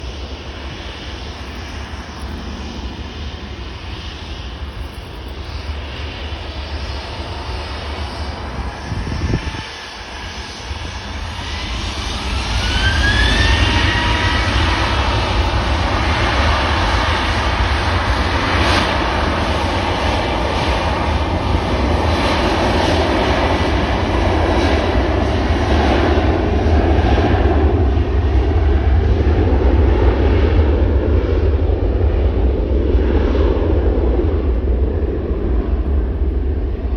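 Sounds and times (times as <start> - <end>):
jet engines spooling up: 0.0 - 36.9.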